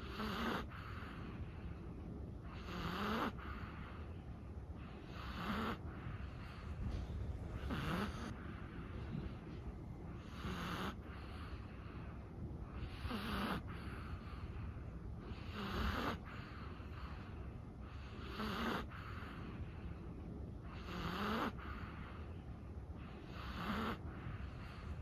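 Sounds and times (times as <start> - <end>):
dog snoring: 0.0 - 1.6, 2.4 - 4.2, 4.8 - 9.4, 10.1 - 19.8, 20.6 - 22.2, 23.0 - 25.0.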